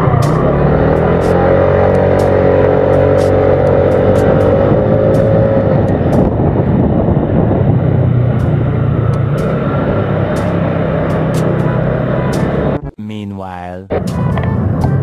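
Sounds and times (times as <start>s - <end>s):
wind and road noise: 0.0s - 12.8s, 13.9s - 15.0s
motorcycle engine drone: 0.0s - 12.9s, 13.9s - 15.0s
steady droning tone: 0.0s - 12.9s, 13.9s - 15.0s.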